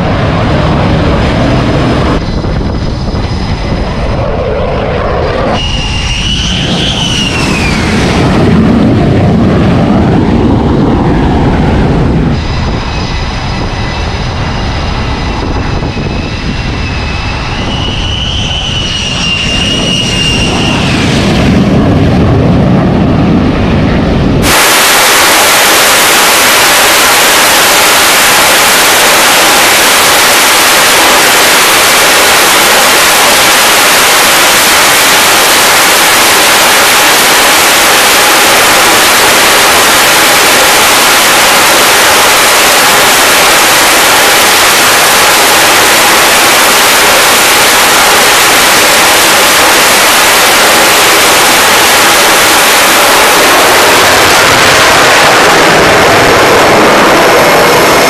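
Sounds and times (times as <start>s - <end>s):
jet engines roaring at full power: 0.0s - 58.0s.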